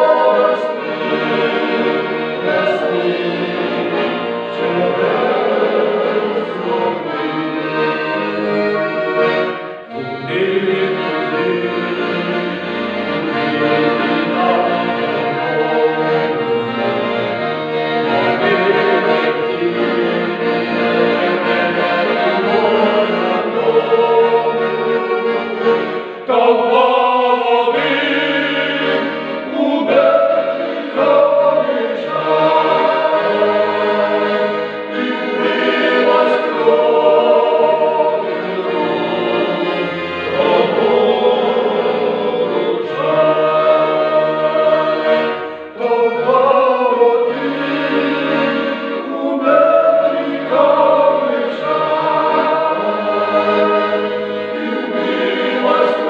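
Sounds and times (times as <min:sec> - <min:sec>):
vocal ensemble singing: 0:00.0 - 0:16.7, 0:18.0 - 0:56.0
accordion: 0:00.0 - 0:56.0.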